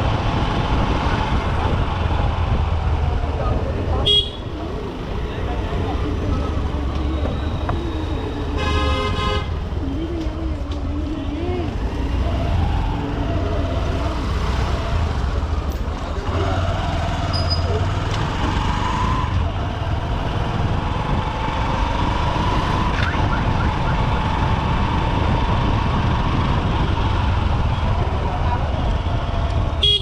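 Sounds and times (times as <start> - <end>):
motorcycle engine rumble: 0.0 - 30.0
road noise: 0.0 - 30.0.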